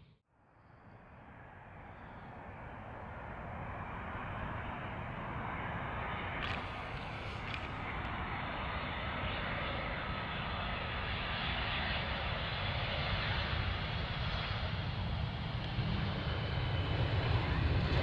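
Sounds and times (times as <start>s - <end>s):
jet engines roaring: 2.2s - 18.0s.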